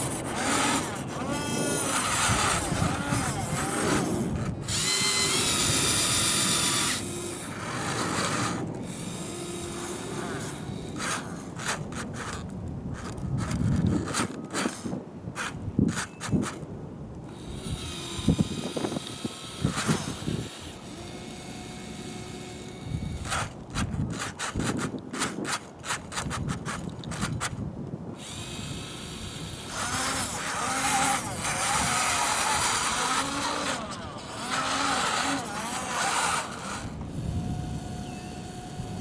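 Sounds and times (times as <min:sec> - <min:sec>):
electric motors and gears whirring: 0:00.0 - 0:39.0.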